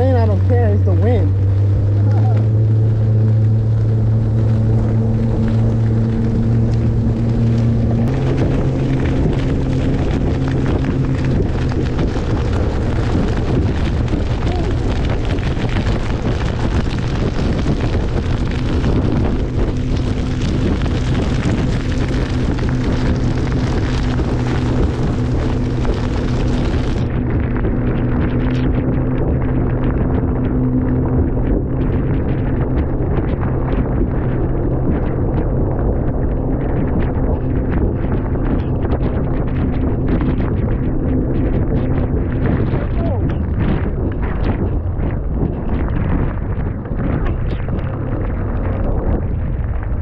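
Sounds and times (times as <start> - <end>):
boat motor running: 0.0 - 50.0
wind noise on microphone: 0.0 - 50.0.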